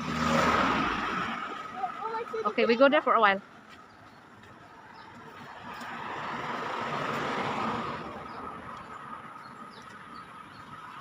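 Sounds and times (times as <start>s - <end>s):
vehicle driving past: 0.0s - 2.6s, 4.6s - 11.0s.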